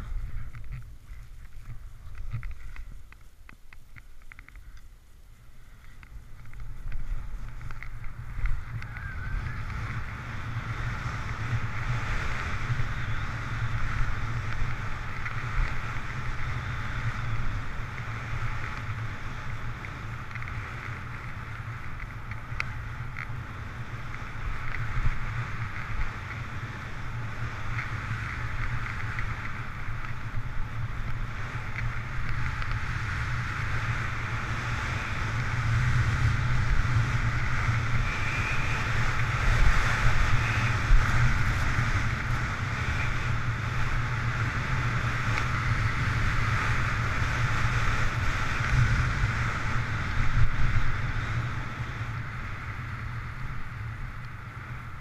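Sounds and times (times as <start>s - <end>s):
skis scraping over snow: 0.0s - 55.0s
wind rumbling on microphone: 0.0s - 55.0s.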